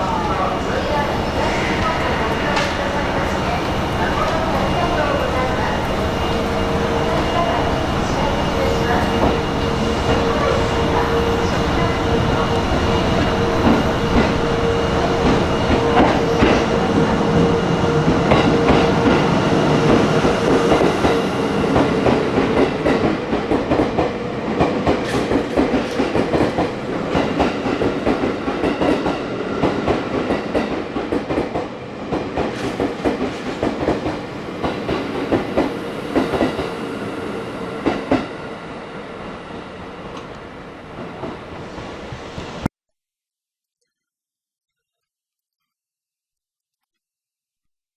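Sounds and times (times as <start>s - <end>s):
electric train passing: 0.0s - 42.7s.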